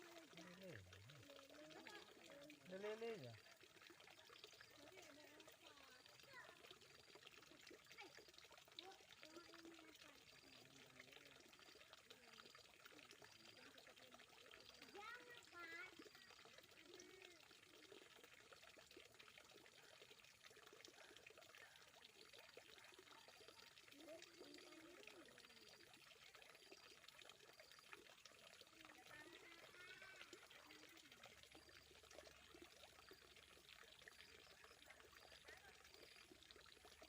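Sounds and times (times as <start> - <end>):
water trickling: 0.0 - 37.0.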